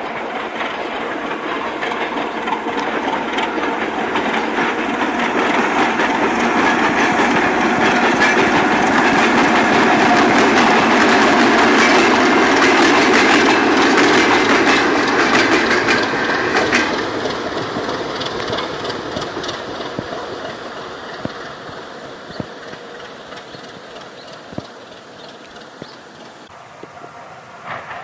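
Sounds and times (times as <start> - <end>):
diesel locomotive engine: 0.0 - 28.0
wheels clicking on rails: 0.0 - 28.0.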